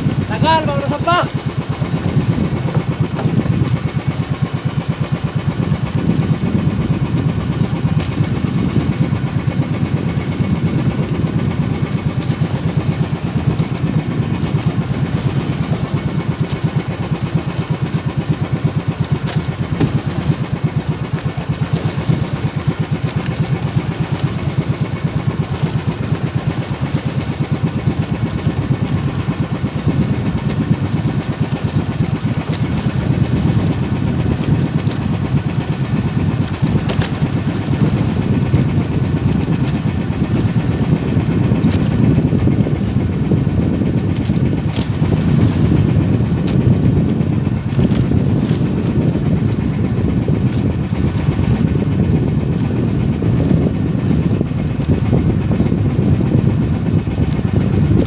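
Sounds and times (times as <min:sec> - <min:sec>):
boat engine puttering: 0:00.0 - 0:58.0.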